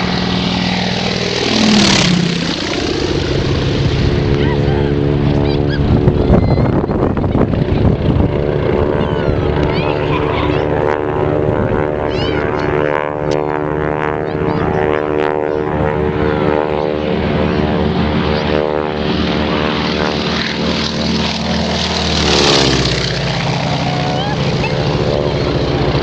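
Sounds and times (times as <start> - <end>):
propeller plane drone: 0.0 - 26.0.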